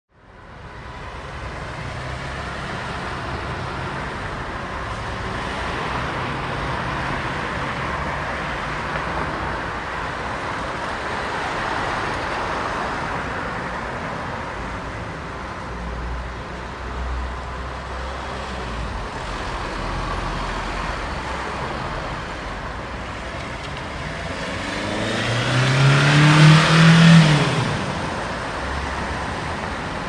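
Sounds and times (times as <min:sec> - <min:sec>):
cars passing: 0:00.2 - 0:30.0.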